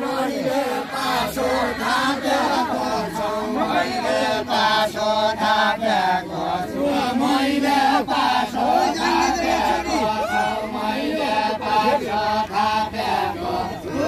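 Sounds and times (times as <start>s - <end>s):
men singing folk song together: 0.0s - 14.0s.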